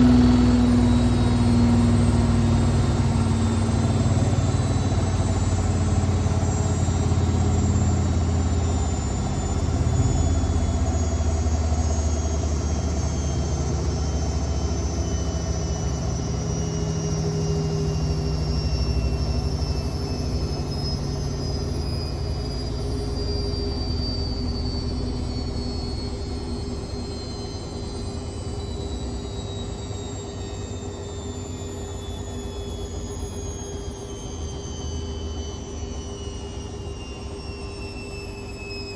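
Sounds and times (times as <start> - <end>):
high motor whine: 0.0 - 38.9.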